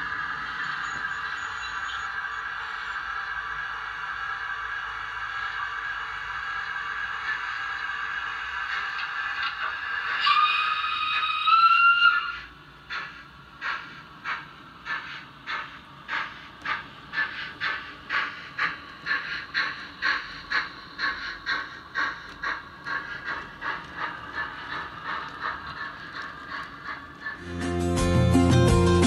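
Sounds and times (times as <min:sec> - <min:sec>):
model steam locomotive chuffing: 0:00.0 - 0:28.2.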